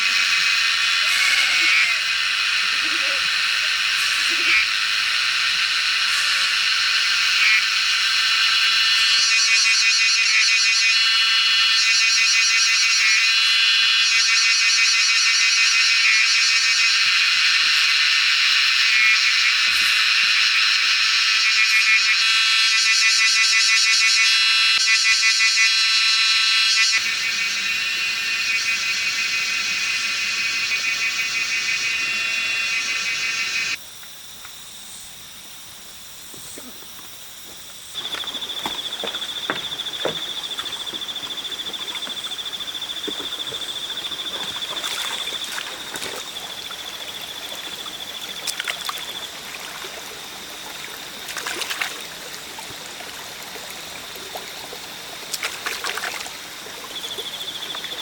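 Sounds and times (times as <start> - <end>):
insect pulsing trill: 0.0 - 33.8, 34.7 - 58.0
insects shrill drone: 0.0 - 58.0.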